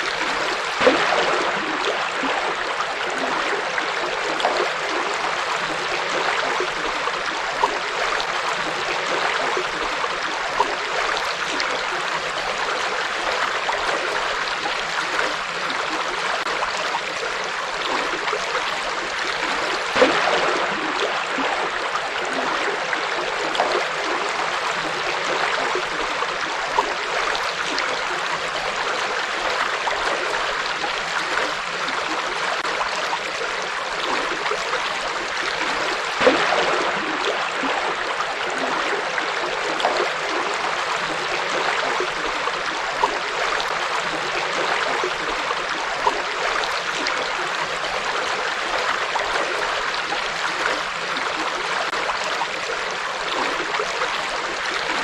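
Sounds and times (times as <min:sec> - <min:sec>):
small water splashes: 0:00.0 - 0:55.0.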